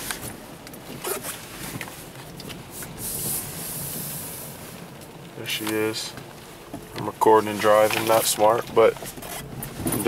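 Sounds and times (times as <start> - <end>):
car road noise on wet road: 0.0 - 10.0.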